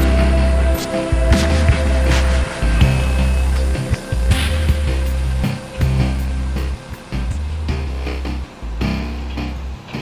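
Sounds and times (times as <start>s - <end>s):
music with heavy bass and drums: 0.0s - 10.0s.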